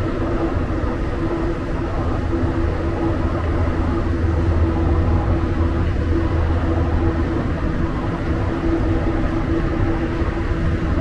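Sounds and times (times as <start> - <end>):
metro train rumble: 0.0 - 11.0.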